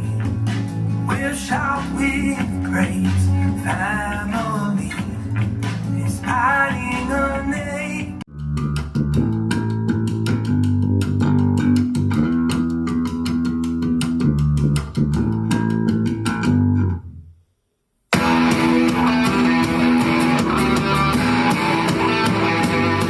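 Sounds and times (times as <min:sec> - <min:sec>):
bass guitar line: 0:00.0 - 0:17.2, 0:18.1 - 0:23.0
bass-heavy instrumental music: 0:00.0 - 0:17.4, 0:18.1 - 0:23.0.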